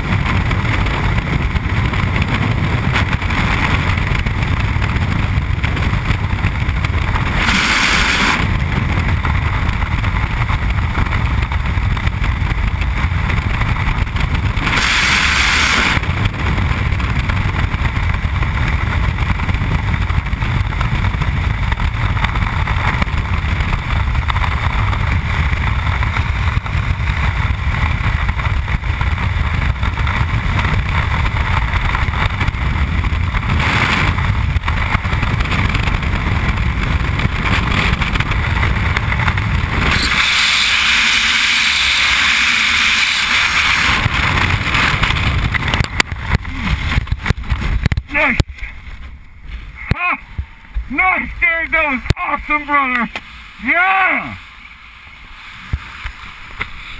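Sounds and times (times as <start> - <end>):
wind roaring over microphone: 0.0 - 56.9.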